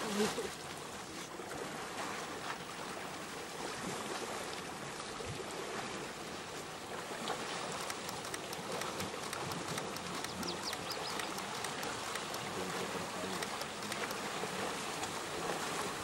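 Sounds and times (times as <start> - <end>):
elephants splashing through water: 0.0 - 16.0
river water rushing: 0.0 - 16.0.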